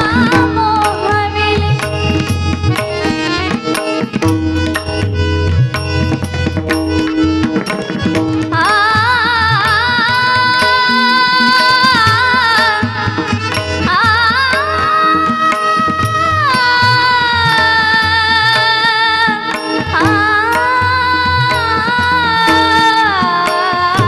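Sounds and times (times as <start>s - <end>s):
woman singing devotional song: 0.0s - 3.9s, 8.3s - 24.0s
tabla strokes: 0.0s - 24.0s.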